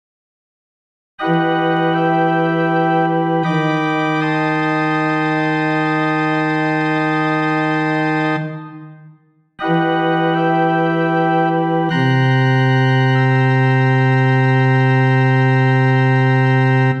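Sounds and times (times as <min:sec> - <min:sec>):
organ playing full chords: 0:01.2 - 0:08.9, 0:09.6 - 0:17.0.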